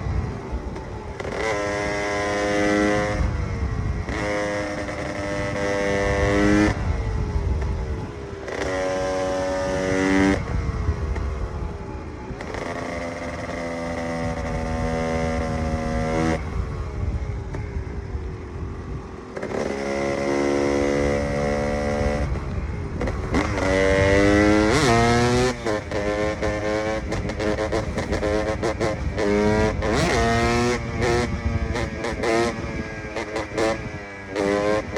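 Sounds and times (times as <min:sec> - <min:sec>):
two-stroke motorcycle engine revving: 0:00.0 - 0:34.9.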